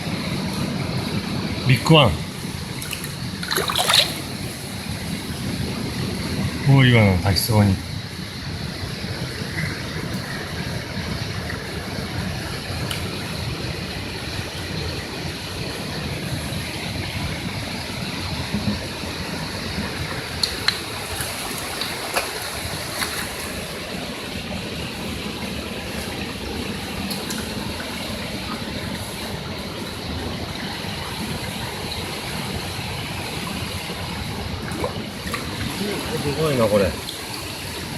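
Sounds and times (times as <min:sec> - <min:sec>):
waterfall rushing: 0:00.0 - 0:06.9, 0:07.6 - 0:37.9.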